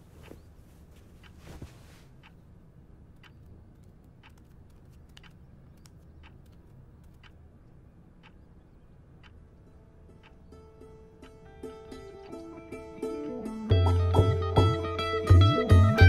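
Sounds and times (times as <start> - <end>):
faint low room hum: 0.0 - 16.0
clock ticking: 3.1 - 16.0.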